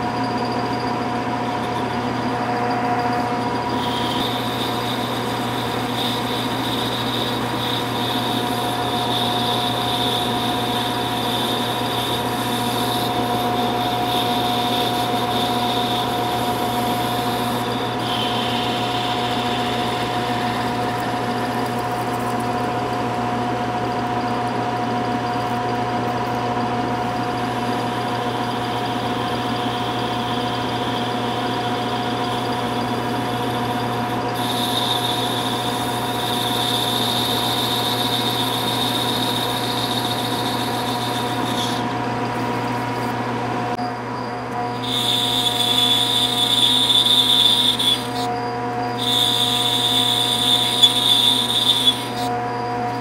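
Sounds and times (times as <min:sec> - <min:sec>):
high cutting whine: 0:00.0 - 0:53.0
metal lathe humming: 0:00.0 - 0:53.0.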